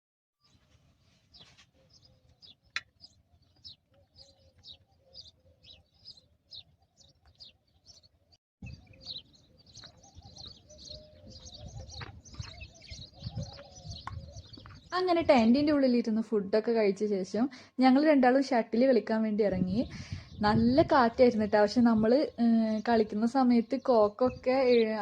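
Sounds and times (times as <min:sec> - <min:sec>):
small birds chirping: 0:00.4 - 0:16.0, 0:19.4 - 0:25.0.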